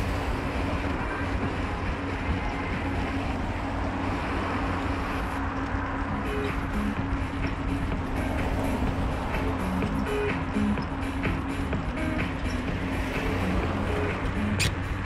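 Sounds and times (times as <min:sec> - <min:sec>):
car engine and road noise: 0:00.0 - 0:15.0
constant low hum: 0:00.0 - 0:15.0.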